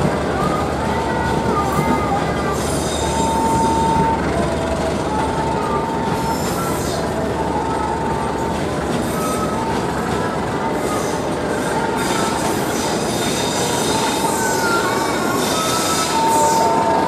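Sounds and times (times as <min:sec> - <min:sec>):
train wheels rumbling on track: 0:00.0 - 0:17.0
high-pitched wheel squeal: 0:00.4 - 0:04.4, 0:05.6 - 0:17.0.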